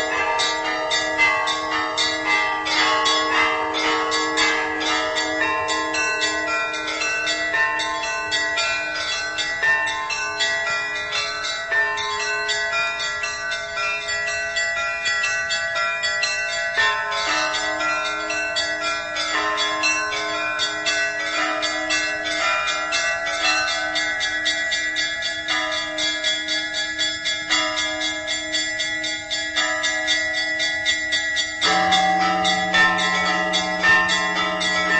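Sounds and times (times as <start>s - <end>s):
large bells ringing: 0.0s - 34.9s
small bells struck rapidly: 0.0s - 34.9s.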